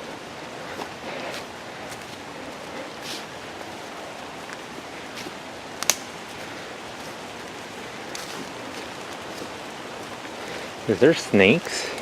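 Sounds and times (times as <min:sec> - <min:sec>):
rain falling on trees: 0:00.0 - 0:12.0.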